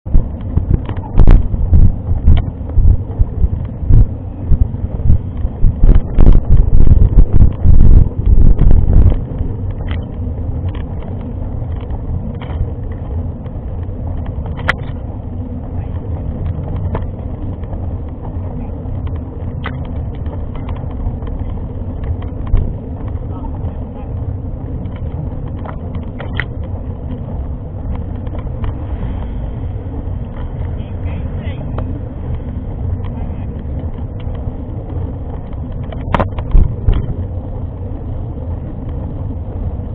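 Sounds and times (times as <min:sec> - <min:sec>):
wind buffeting microphone: 0:00.0 - 0:39.9
bike clicks and rattles: 0:00.2 - 0:39.9.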